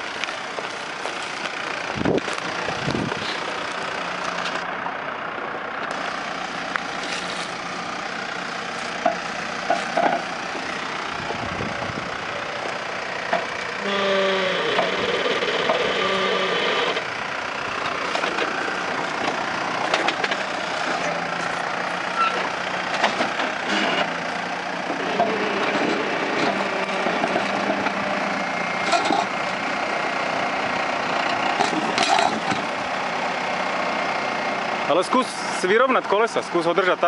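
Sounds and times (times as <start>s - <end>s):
diesel engine at low revs: 0.0s - 37.0s.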